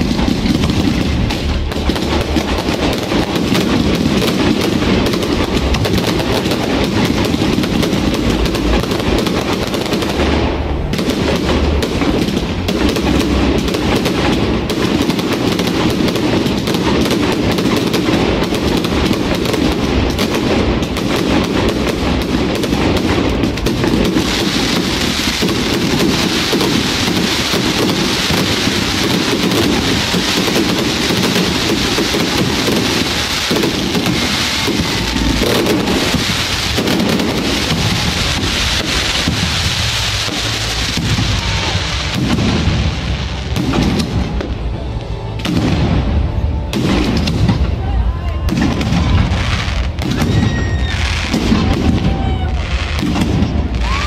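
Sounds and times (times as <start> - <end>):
fireworks banging and crackling: 0.0 - 54.0.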